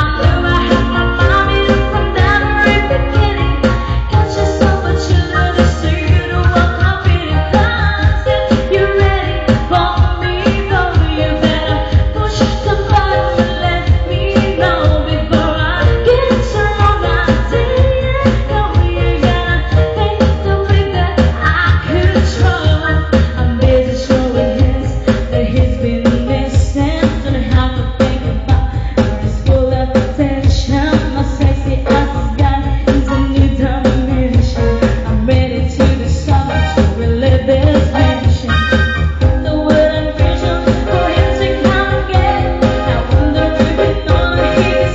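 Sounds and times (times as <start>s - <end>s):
pop song with singing: 0.0s - 44.9s.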